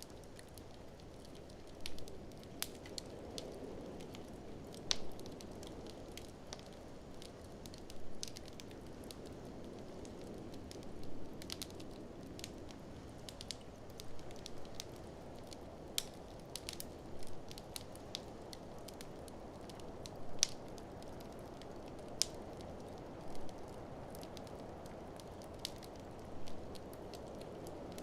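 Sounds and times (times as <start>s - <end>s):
fireplace fire crackling and popping: 0.0s - 28.0s.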